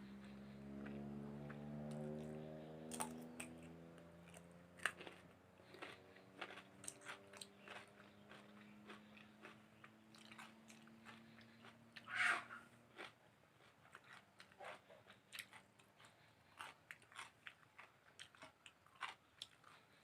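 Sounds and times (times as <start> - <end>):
chewing crunchy meat: 0.0 - 20.0.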